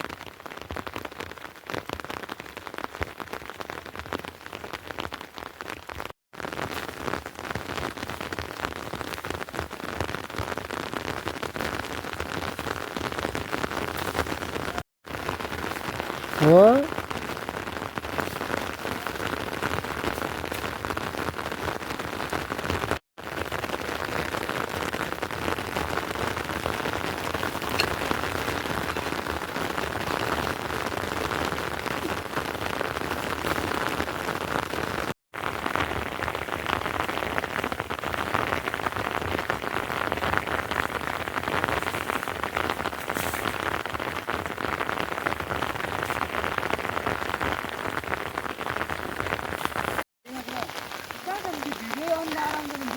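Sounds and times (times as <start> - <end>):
steady rain patter: 0.0 - 52.9.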